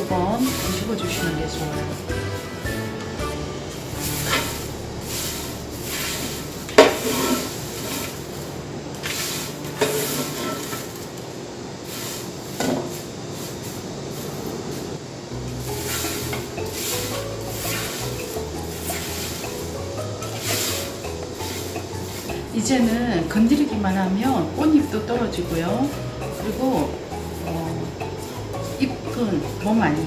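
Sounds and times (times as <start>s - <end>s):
flowers scraping in roasting pan: 0.0s - 11.2s, 11.8s - 14.9s, 15.6s - 30.0s.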